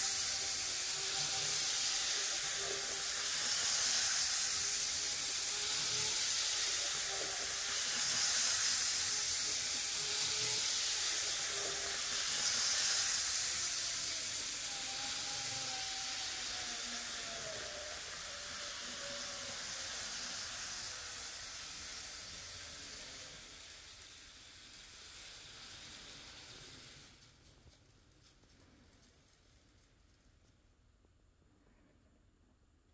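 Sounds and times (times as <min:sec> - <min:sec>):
model train motor whirring: 0:00.0 - 0:30.5.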